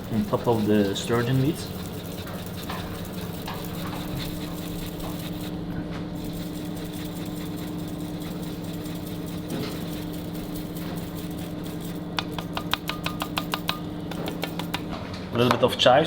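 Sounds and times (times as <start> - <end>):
kitchen equipment humming: 0.0 - 16.0.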